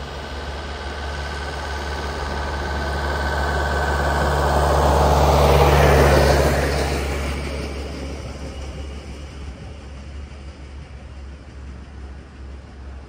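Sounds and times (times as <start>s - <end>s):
diesel engine hum: 0.0s - 13.0s
train rail noise: 0.0s - 13.0s.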